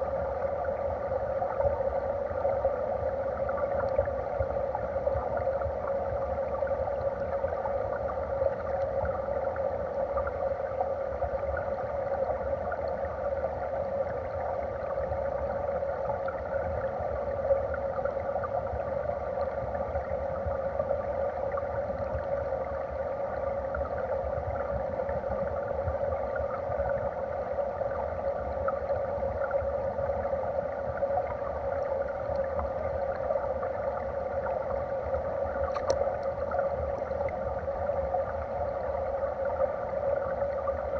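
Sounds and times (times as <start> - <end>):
muffled underwater stream rush: 0.0 - 40.9.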